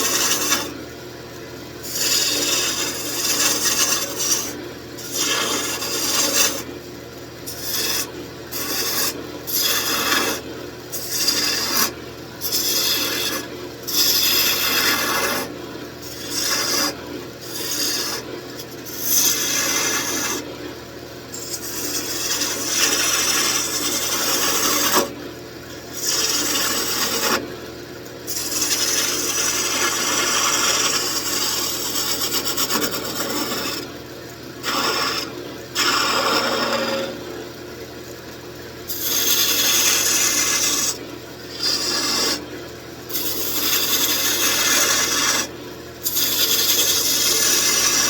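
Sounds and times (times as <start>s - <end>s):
tool scraping spinning wood: 0.0s - 0.8s, 1.8s - 6.7s, 7.4s - 20.5s, 21.3s - 25.1s, 25.9s - 27.5s, 28.3s - 33.9s, 34.6s - 37.4s, 38.9s - 42.4s, 43.1s - 48.0s.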